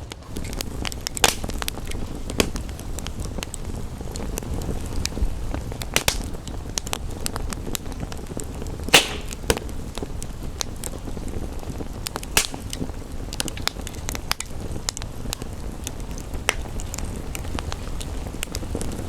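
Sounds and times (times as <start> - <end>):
rain rushing: 0.0 - 19.0
wood fire crackling and popping: 0.0 - 19.0.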